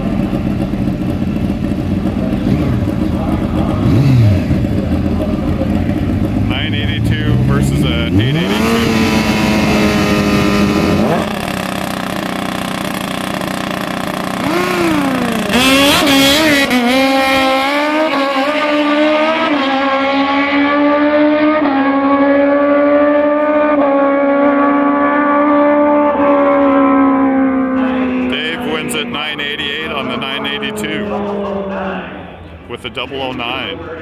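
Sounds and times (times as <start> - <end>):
motorcycles racing at full throttle: 0.0 - 34.0.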